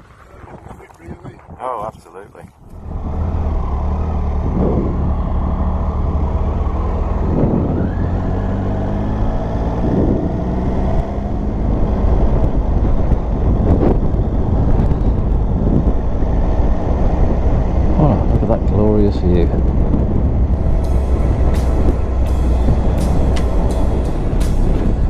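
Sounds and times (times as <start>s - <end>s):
motorcycle engine running: 2.6s - 25.0s.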